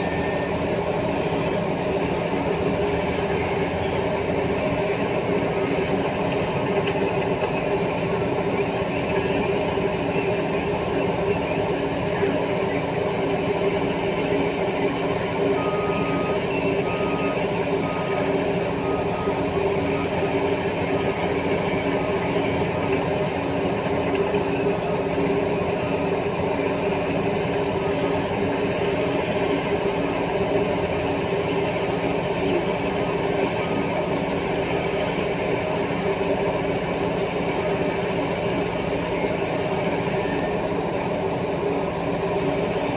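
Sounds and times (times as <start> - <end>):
heavy diesel machinery drone: 0.0 - 42.9.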